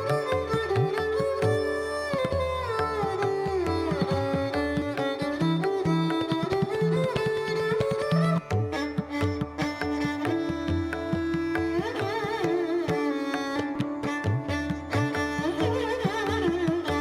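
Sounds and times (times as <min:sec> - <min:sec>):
gliding string melody: 0:00.0 - 0:17.0.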